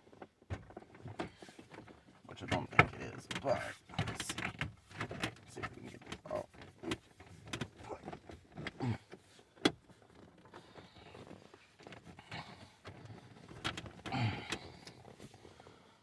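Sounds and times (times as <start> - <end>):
plastic creaking and scraping: 0.0 - 15.6.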